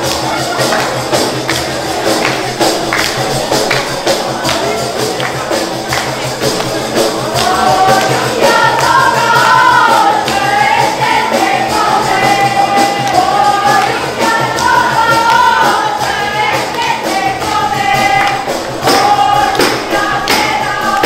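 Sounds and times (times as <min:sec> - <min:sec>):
frame drums with jingles: 0:00.0 - 0:21.0
voices singing: 0:00.0 - 0:21.0.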